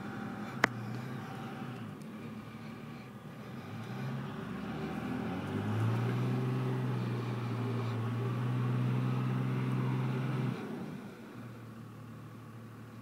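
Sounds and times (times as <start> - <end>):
pickup truck engine revving: 0.0 - 12.8.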